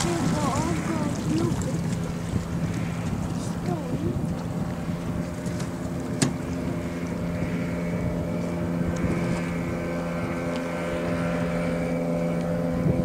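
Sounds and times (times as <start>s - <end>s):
hiss of hull and wake: 0.0s - 13.0s
outboard motor drone: 0.0s - 13.0s.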